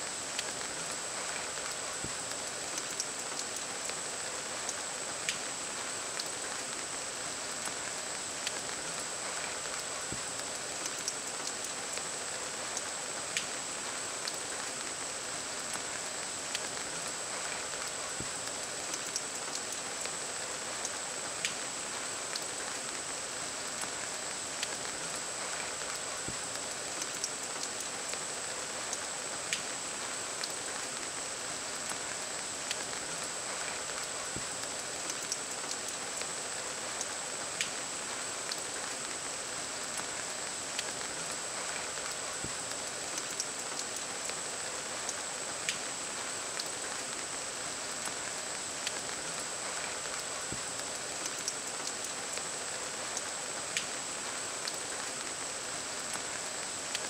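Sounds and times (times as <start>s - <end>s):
rain-like hiss: 0.0s - 57.0s
faint ticks: 0.4s - 4.0s, 4.6s - 5.5s, 7.6s - 13.5s, 15.6s - 31.2s, 31.8s - 57.0s.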